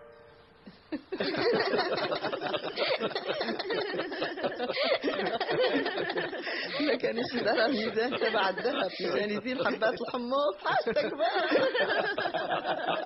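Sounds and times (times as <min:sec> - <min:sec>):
group of people laughing: 0:00.9 - 0:13.0.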